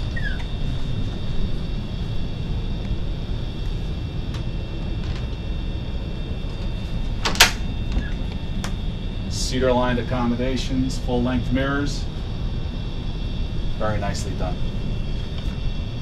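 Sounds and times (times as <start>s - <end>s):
air conditioning hum: 0.0s - 16.0s.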